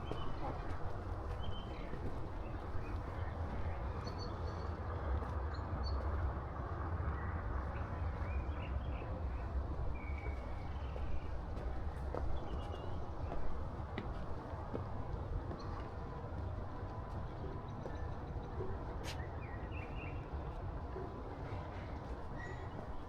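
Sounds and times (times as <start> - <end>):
steady low street rumble: 0.0 - 23.0.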